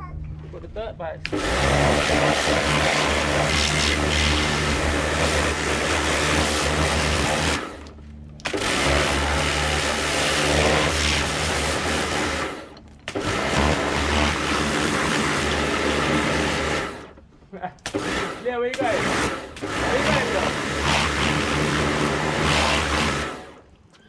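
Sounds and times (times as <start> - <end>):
pressure washer motor hum: 1.2 - 23.8.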